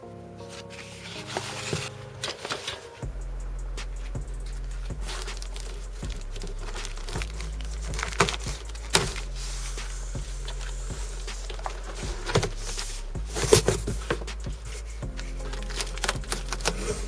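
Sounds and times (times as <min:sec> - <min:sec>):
crinkling rustling handling noise: 0:00.4 - 0:03.0, 0:04.0 - 0:17.0
steady low hum: 0:03.0 - 0:17.0.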